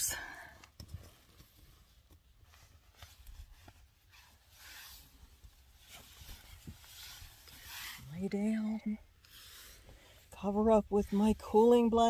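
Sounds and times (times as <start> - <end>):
bedding and clothing rustling: 0.9 - 12.0.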